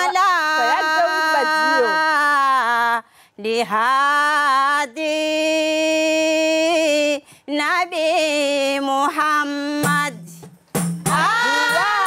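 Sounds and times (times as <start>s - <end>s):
woman singing unaccompanied: 0.0s - 10.3s, 11.1s - 12.0s.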